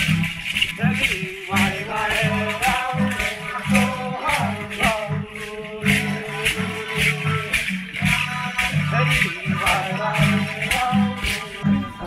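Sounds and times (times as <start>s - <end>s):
ankle rattles shaking: 0.0s - 12.0s
group singing: 0.0s - 12.0s.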